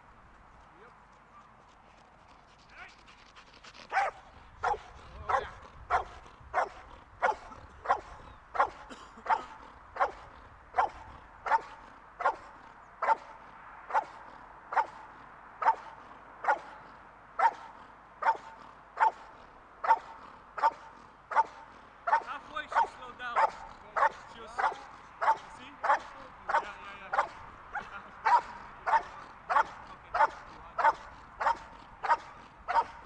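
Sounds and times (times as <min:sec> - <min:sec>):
dog barking rhythmically: 0:03.9 - 0:33.0.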